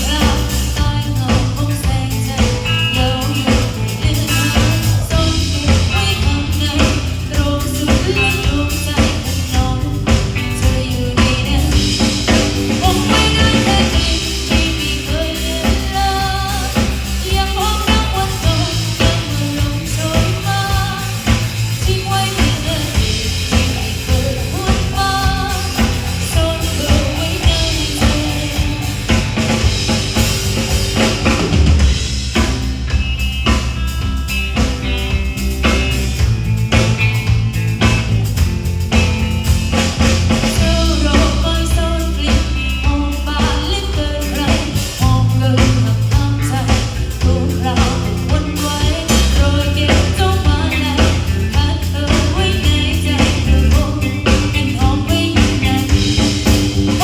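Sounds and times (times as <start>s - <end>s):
bass guitar: 0.0s - 57.0s
drum kit steady beat: 0.0s - 57.0s.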